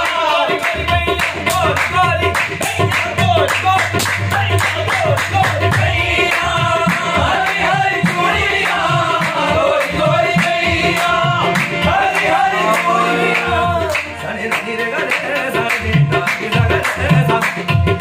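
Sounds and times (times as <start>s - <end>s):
harmonium: 0.0s - 18.0s
men singing together: 0.0s - 18.0s
rhythmic hand clapping: 0.0s - 18.0s.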